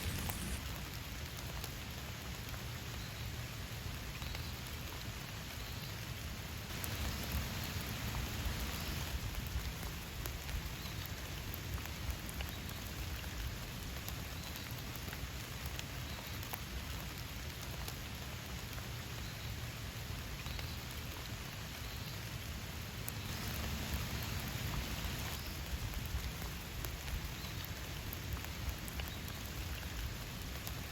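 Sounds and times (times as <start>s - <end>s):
raindrops ticking: 0.0s - 30.9s
steady rain falling: 0.0s - 30.9s.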